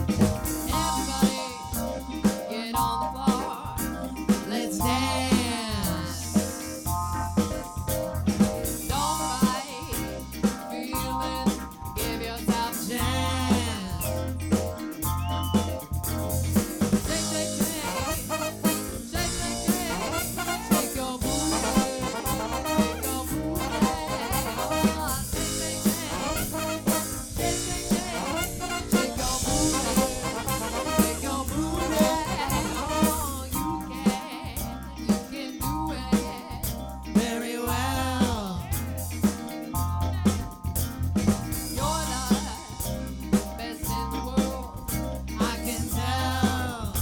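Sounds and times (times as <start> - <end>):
drum kit beat: 0.0 - 47.0
live soul band playing: 0.0 - 47.0.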